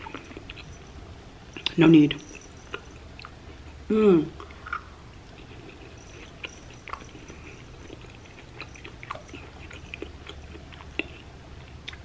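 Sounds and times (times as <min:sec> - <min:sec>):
mouth-closed chewing: 0:00.0 - 0:01.0, 0:01.6 - 0:12.0.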